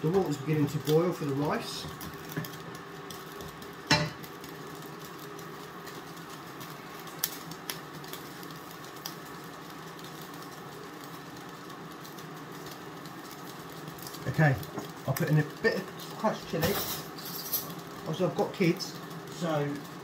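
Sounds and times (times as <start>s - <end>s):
steady kitchen hum: 0.0s - 20.0s.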